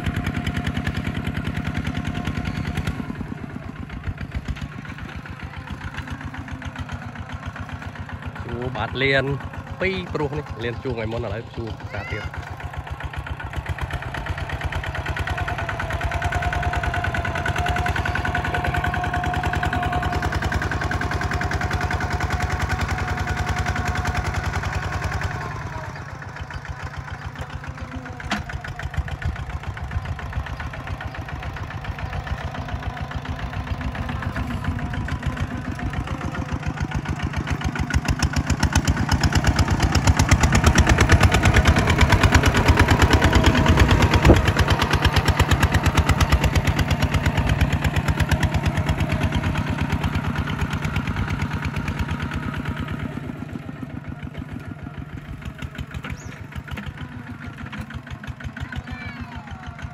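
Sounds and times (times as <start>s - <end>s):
diesel engine chugging: 0.0s - 59.9s.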